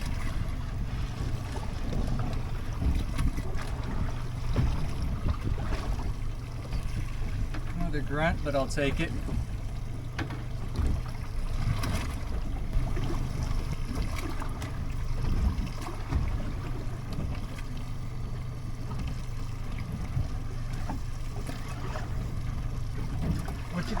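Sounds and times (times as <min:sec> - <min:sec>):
knocks on boat: 0:00.0 - 0:17.9, 0:18.8 - 0:24.0
wind and water against hull: 0:00.0 - 0:24.0.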